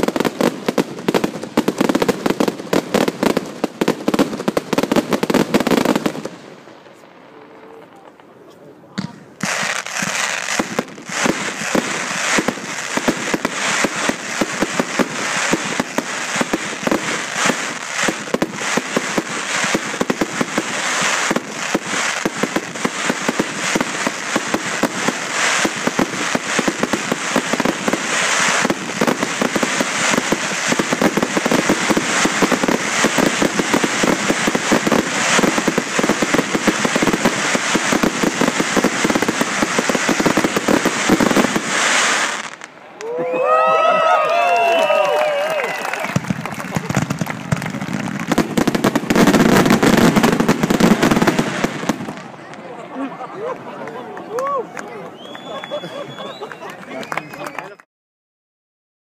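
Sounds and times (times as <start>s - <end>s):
fireworks crackling: 0.0s - 57.8s.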